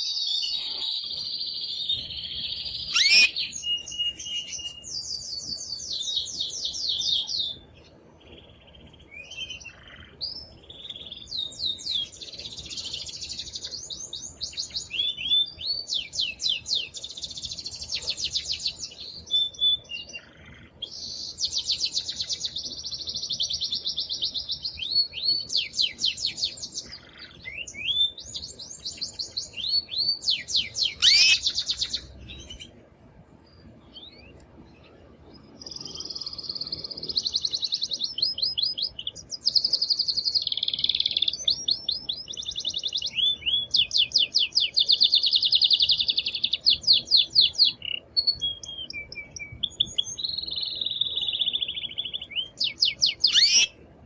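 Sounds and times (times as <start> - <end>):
canary singing trills: 0.0 - 32.8, 33.8 - 53.8.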